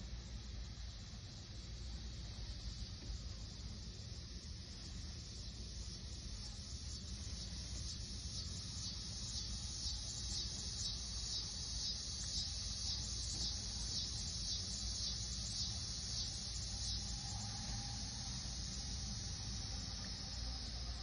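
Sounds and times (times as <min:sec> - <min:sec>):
insects chirping: 0:00.0 - 0:21.0
low steady rumble: 0:00.0 - 0:21.0.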